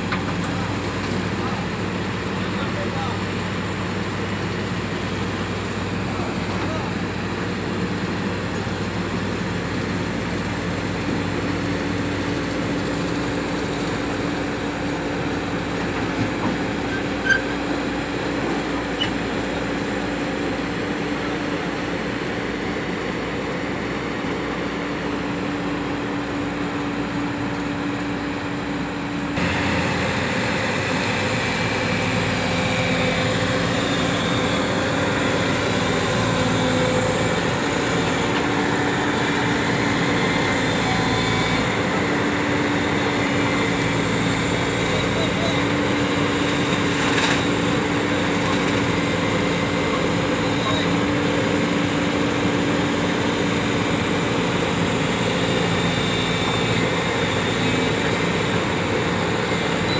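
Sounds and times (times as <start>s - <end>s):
excavator diesel engine humming: 0.0s - 59.9s.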